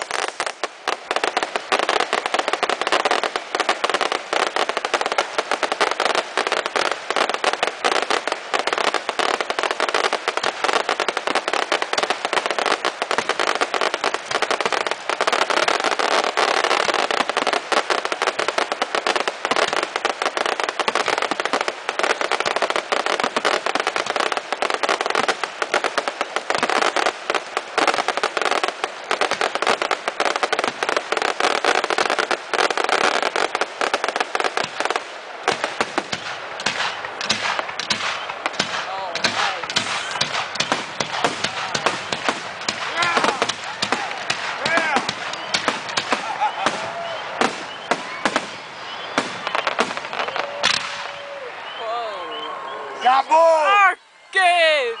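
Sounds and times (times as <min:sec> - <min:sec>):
fireworks crackling and banging: 0:00.0 - 0:51.8.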